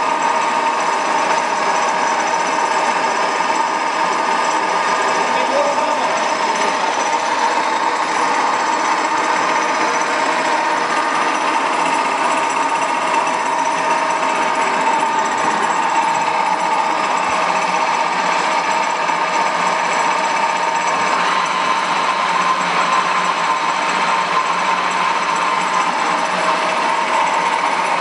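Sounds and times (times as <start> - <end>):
milling machine whirring: 0.0 - 28.0.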